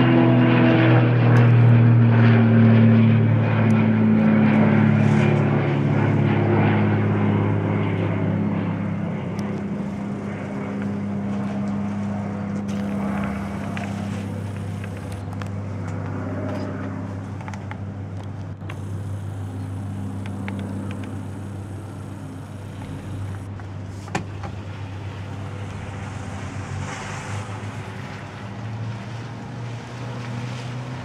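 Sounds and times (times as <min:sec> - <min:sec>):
propeller plane droning overhead: 0:00.0 - 0:31.0.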